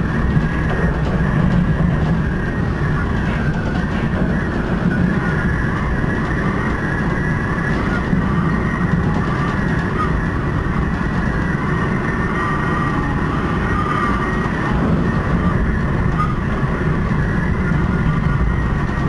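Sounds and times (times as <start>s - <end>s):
faint wavering whine: 0.0s - 19.0s
monorail car rumbling on track: 0.0s - 19.0s.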